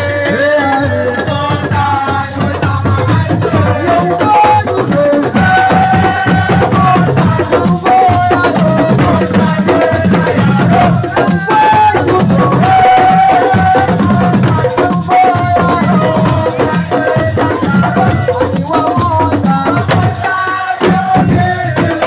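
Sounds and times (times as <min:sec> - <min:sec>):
fast drumming: 0:00.0 - 0:22.0
shakers: 0:00.0 - 0:22.0.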